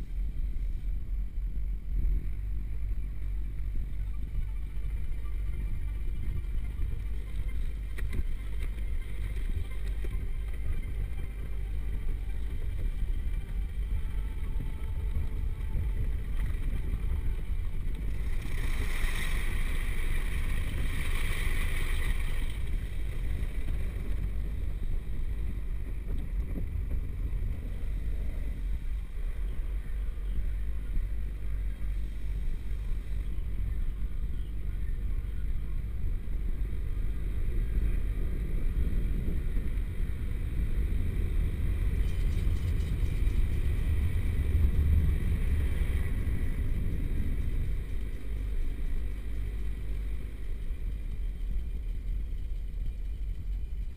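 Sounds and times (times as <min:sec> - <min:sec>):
car wash low rumble: 0:00.0 - 0:53.9.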